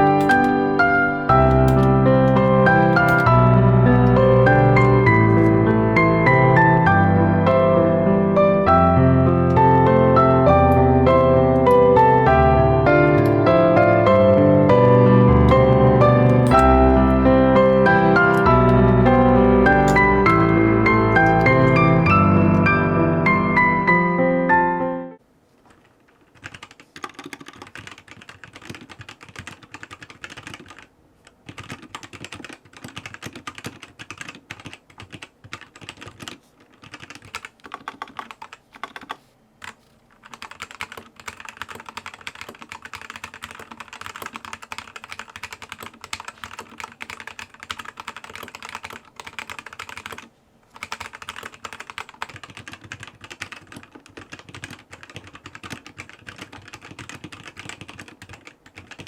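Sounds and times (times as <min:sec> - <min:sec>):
mechanical keyboard typing: 0:00.0 - 0:06.9, 0:08.7 - 0:22.8, 0:25.8 - 0:59.0.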